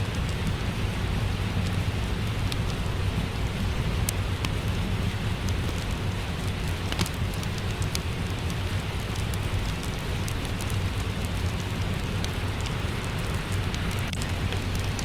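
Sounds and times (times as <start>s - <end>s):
steady rain: 0.0s - 15.0s
wood fire crackles: 0.0s - 15.0s.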